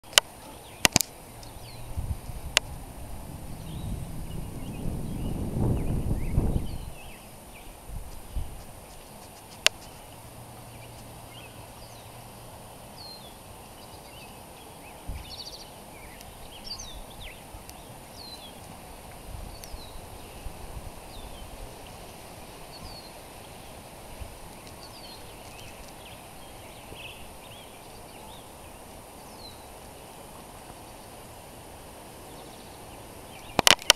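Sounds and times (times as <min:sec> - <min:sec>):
small birds chirping: 0:00.0 - 0:31.4, 0:32.1 - 0:33.9
creek water flowing over gravel: 0:00.0 - 0:33.9.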